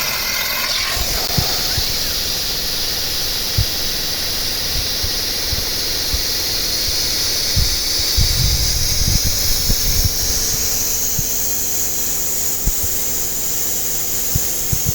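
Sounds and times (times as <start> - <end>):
plasma cutter torch hissing: 0.0 - 14.9.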